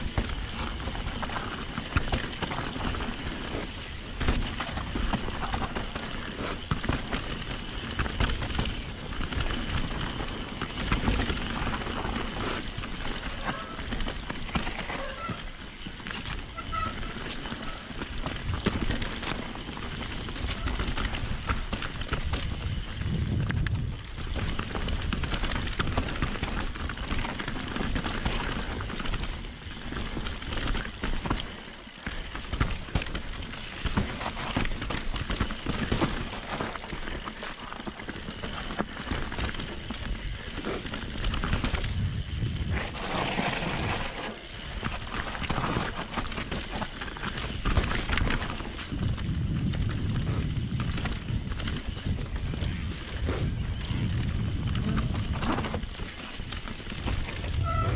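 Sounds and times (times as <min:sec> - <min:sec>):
bike rattling: 0:00.0 - 0:57.9
mountain bike on rough trail: 0:00.0 - 0:57.9.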